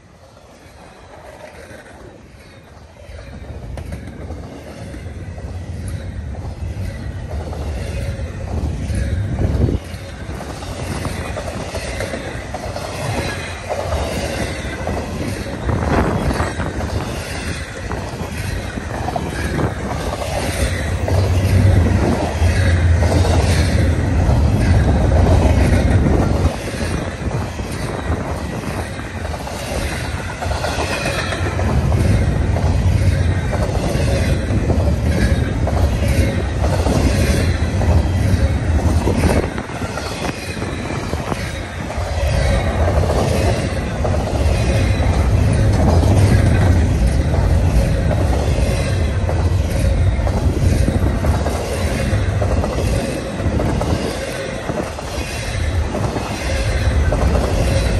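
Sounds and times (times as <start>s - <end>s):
train wheels rumbling on rail: 0.0s - 57.9s.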